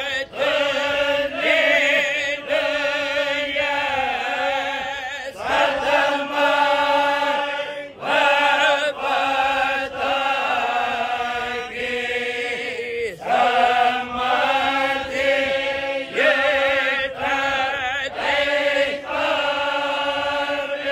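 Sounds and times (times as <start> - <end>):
voice chanting devotional song: 0.0 - 20.9.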